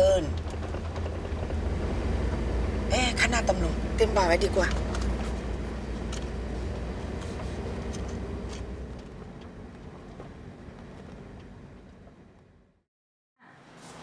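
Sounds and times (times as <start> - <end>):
car engine and road noise: 0.0 - 12.9.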